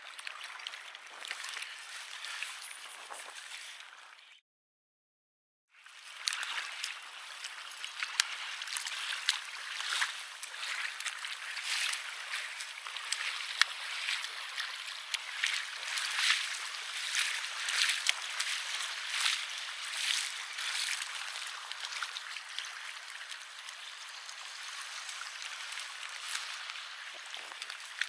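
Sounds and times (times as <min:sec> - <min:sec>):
water lapping and splashing: 0:00.0 - 0:04.4, 0:05.8 - 0:28.0.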